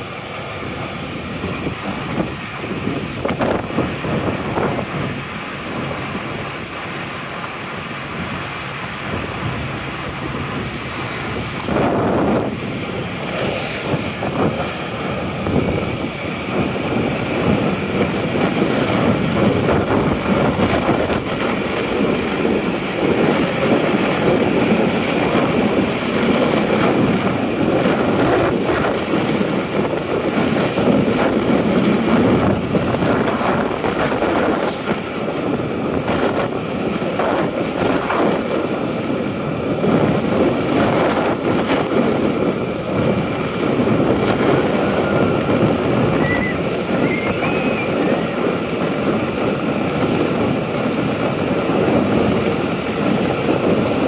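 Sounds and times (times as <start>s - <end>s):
motorbike engine and tyre noise: 0.0s - 54.0s
wind rushing over microphone: 0.0s - 54.0s.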